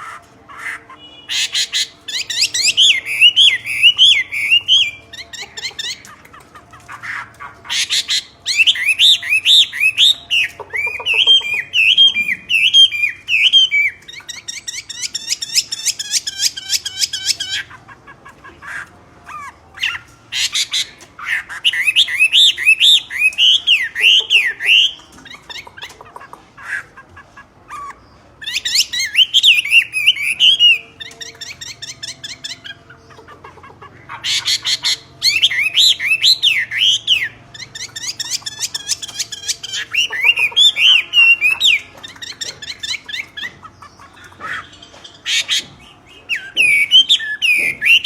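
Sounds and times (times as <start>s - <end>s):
myna bird whistling calls: 0.0s - 6.1s, 6.9s - 17.8s, 18.6s - 25.8s, 27.7s - 48.0s
harsh grating bird call: 0.0s - 48.0s.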